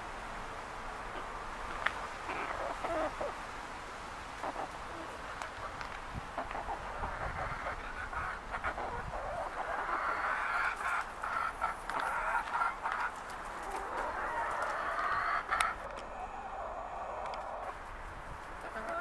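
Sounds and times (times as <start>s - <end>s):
chickens clucking: 1.0s - 3.5s, 4.3s - 19.0s.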